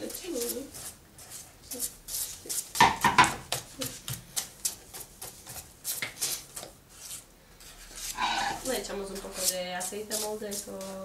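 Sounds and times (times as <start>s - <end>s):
hand mixing thick batter: 0.0s - 11.0s.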